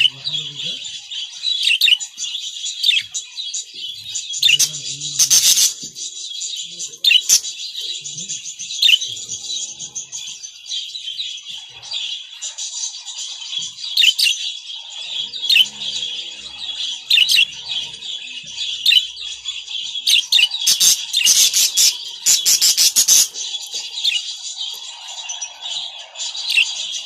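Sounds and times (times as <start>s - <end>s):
budgerigars chattering: 0.0s - 27.0s.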